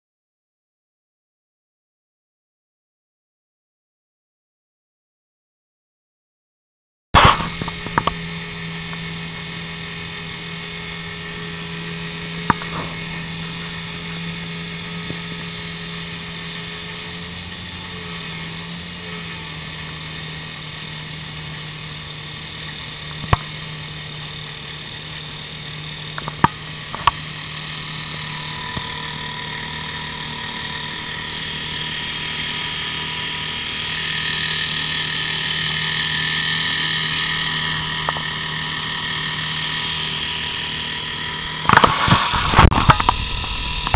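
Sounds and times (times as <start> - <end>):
boat motor humming: 7.2 - 43.9.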